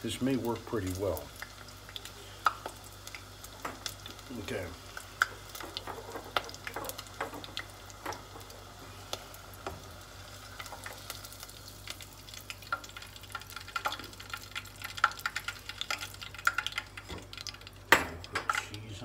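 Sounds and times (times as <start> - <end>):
hot oil sizzling and crackling: 0.0 - 19.0.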